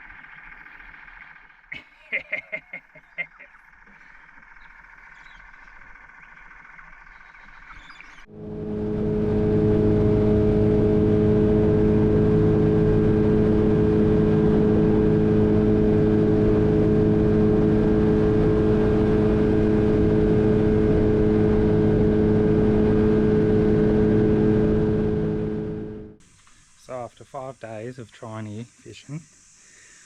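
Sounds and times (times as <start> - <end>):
outboard motor running: 0.0 - 26.6.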